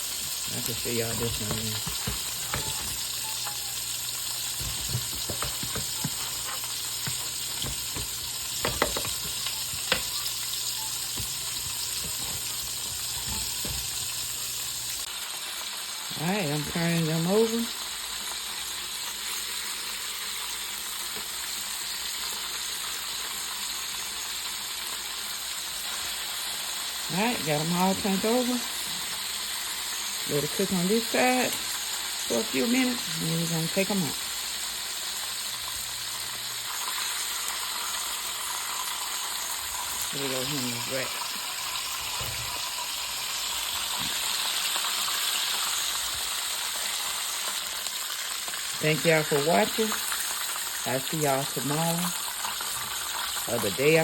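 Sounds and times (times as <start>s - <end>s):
chicken sizzling in a skillet: 0.0s - 54.0s.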